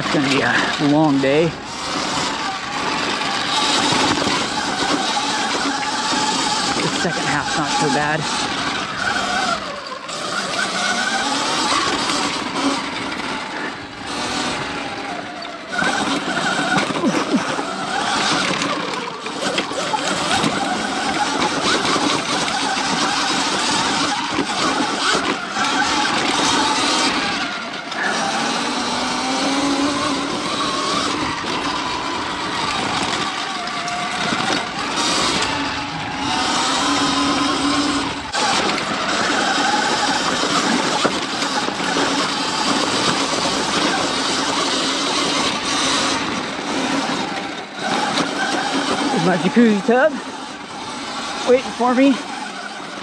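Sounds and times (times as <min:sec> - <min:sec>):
electric motor whining: 0:00.0 - 0:53.0
tyres rattling on loose rock: 0:00.0 - 0:53.0.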